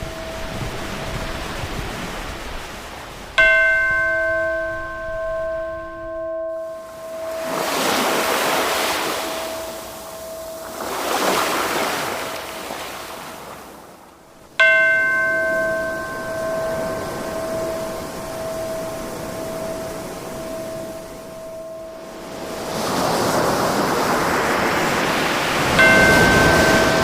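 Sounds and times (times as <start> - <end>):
bell-like chime ringing: 0.0 - 1.5, 3.4 - 13.4, 14.6 - 24.7, 25.6 - 27.0
ocean waves washing in: 0.0 - 27.0.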